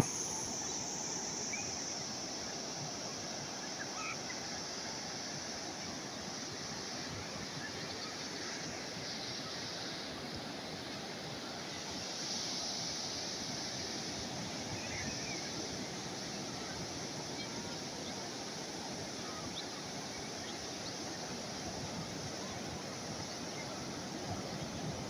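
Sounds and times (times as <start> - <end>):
sea waves washing on shore: 0.0 - 25.0.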